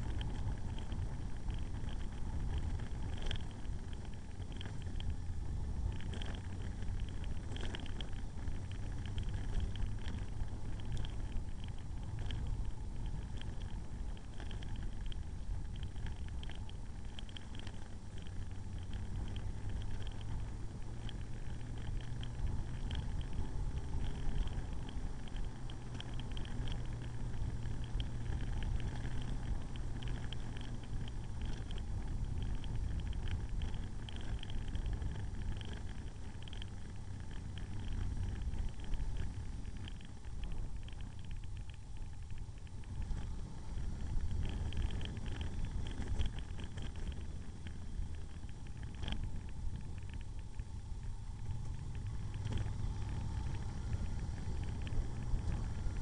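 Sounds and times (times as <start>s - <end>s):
light rapid ticking: 0.0s - 56.0s
motorcycle engine running: 0.0s - 56.0s
wind noise on microphone: 0.0s - 56.0s.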